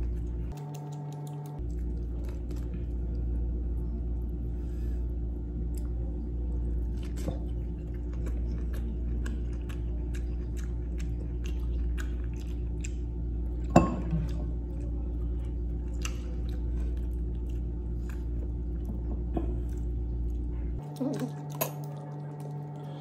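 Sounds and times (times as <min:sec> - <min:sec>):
person chewing food: 0:00.0 - 0:03.3, 0:06.8 - 0:23.0
steady low hum: 0:00.0 - 0:23.0.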